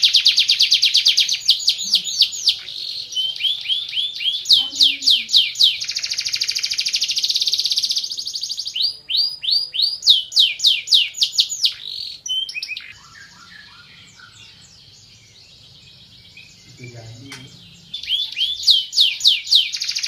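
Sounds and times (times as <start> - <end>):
canary singing: 0.0 - 20.0.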